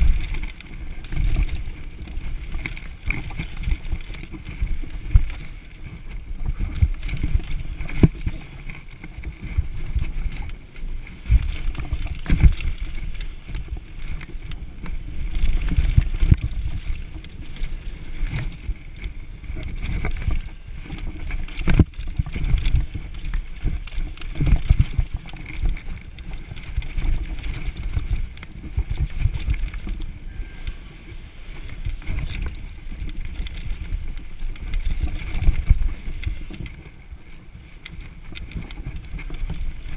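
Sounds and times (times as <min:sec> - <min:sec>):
bike rattles and knocks: 0:00.0 - 0:39.9
bike tyres rumbling over ground: 0:00.0 - 0:39.9.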